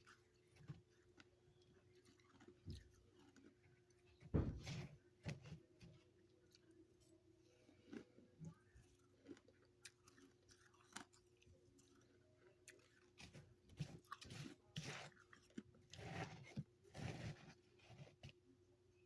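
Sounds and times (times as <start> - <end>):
chewing crunchy frost: 0.0 - 4.2, 5.0 - 18.4.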